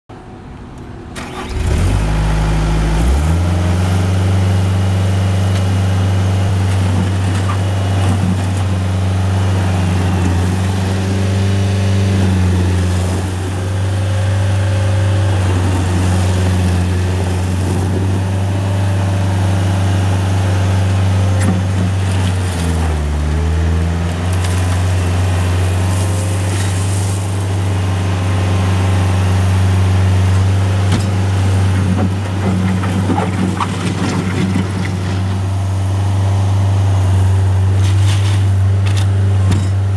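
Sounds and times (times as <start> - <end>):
diesel engine starting and running: 0.1 - 39.9.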